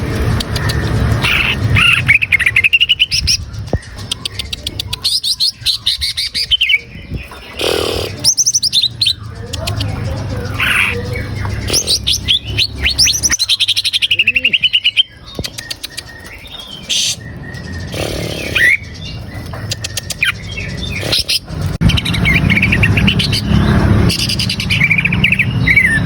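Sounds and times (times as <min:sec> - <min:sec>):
bird singing whistles and trills: 0:00.4 - 0:26.0.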